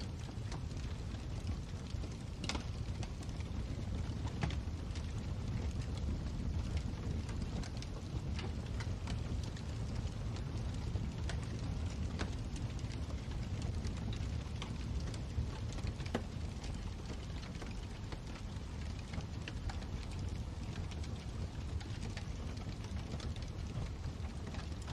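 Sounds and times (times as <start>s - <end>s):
fire crackles and pops: 0.0s - 24.9s
low rumble of flames: 0.0s - 24.9s.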